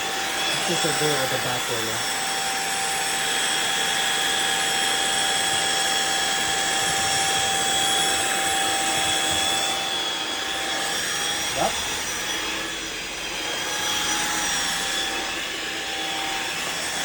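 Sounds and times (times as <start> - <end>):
floor washer whining and hissing: 0.0 - 17.0.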